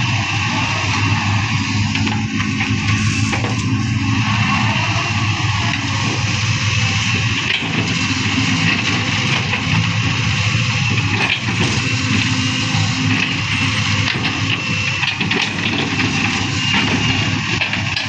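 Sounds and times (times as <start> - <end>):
heavy machinery diesel engine: 0.0 - 18.0.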